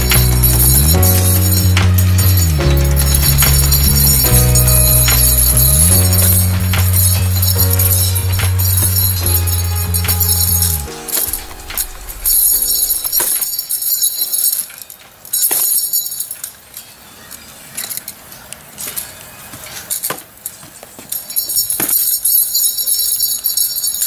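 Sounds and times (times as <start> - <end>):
nunchuck chain jingling: 0.0 - 18.3, 19.8 - 24.0.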